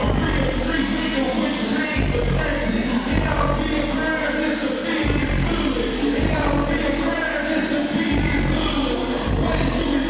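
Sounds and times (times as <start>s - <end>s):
deep bass line: 0.0s - 10.0s
loud hip-hop music: 0.0s - 10.0s.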